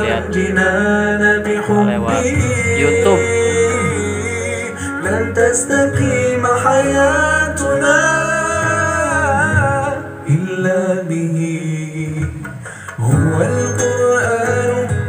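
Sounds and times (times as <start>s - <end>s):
man singing into microphone: 0.0s - 15.0s
song with bass line: 0.0s - 15.0s.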